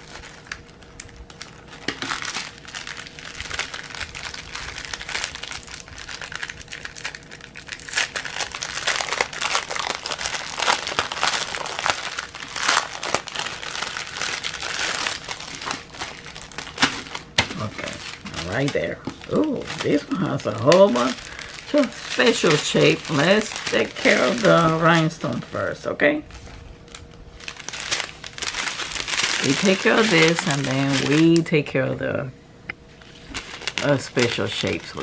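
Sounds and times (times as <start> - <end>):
plastic packaging crinkling: 0.0 - 31.7, 32.9 - 35.0.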